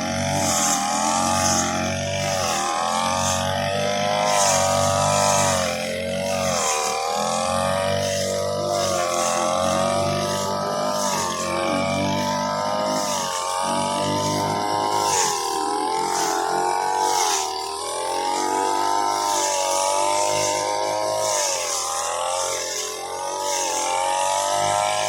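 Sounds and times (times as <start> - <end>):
grass cutter engine running: 0.0 - 25.0.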